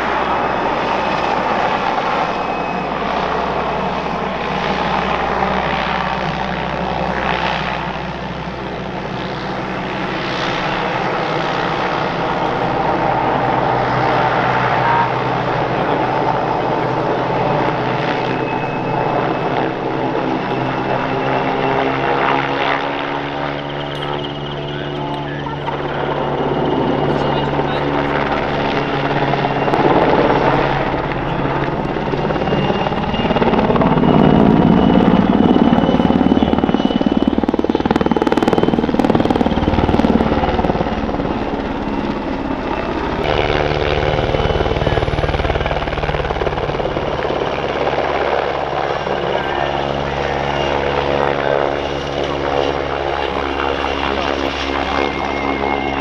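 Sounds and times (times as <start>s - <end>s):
helicopter rotor beating: 0.0s - 56.0s
high turbine whine: 0.0s - 56.0s.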